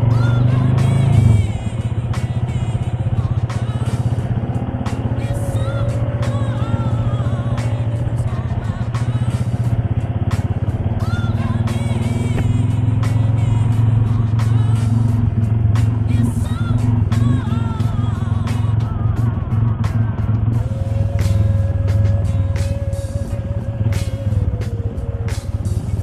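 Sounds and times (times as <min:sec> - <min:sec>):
background music: 0:00.0 - 0:26.0
motorcycle engine running: 0:00.0 - 0:26.0.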